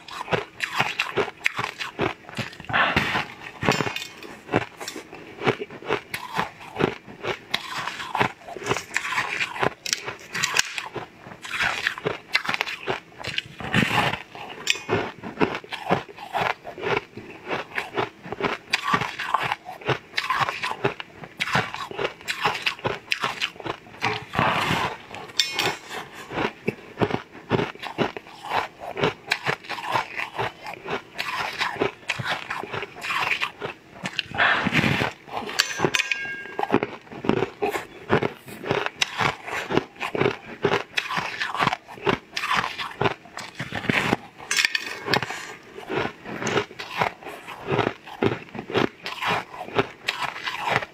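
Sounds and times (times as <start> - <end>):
crunchy bites and chewing: 0.0 - 50.9.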